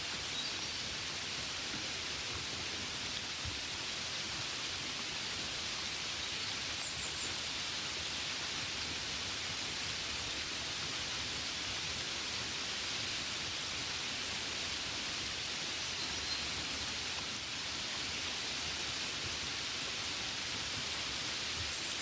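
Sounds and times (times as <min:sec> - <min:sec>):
gentle rain falling: 0:00.0 - 0:22.0.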